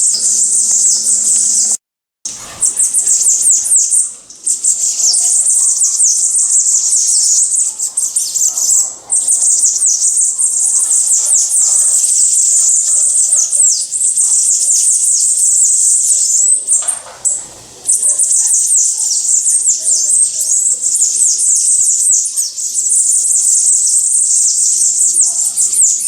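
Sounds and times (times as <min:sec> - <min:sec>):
small songbirds twittering: 0:00.0 - 0:26.0.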